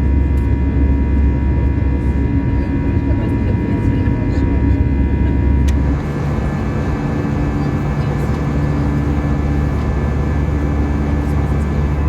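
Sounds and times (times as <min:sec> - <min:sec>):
jet engines and airflow in cabin: 0:00.0 - 0:12.0.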